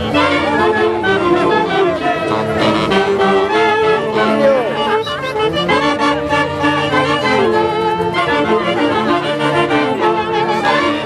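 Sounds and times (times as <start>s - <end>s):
live folk ensemble playing: 0.0s - 11.0s.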